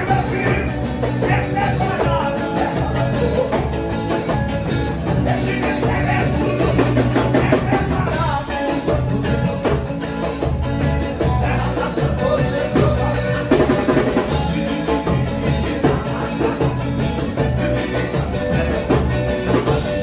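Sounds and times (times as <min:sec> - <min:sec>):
drums playing: 0:00.0 - 0:20.0
people singing: 0:00.0 - 0:20.0.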